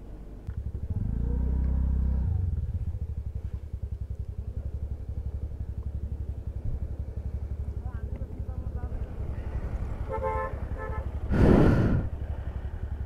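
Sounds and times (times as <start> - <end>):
motorcycle engine revving and idling: 0.3 - 11.3, 12.1 - 13.0.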